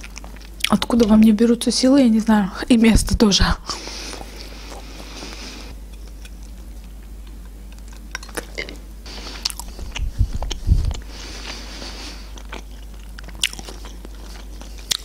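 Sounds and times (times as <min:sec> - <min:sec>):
chewing soft food: 0:00.0 - 0:00.9, 0:03.8 - 0:15.0.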